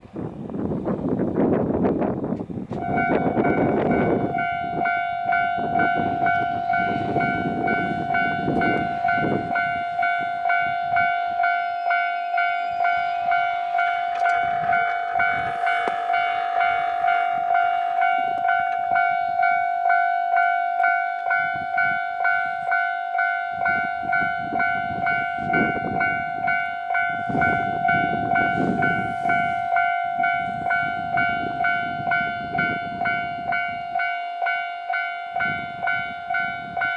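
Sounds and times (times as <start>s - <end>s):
low train rumble: 0.0s - 36.9s
level crossing warning bell: 2.7s - 36.9s.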